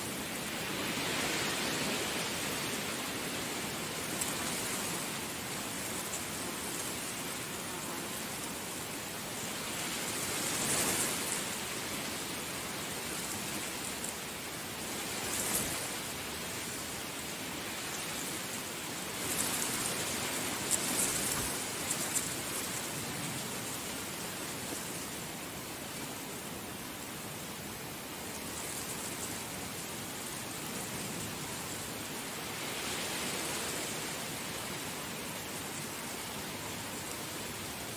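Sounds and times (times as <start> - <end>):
heavy rain falling: 0.0 - 37.9
rain splashing crackles: 0.0 - 37.9.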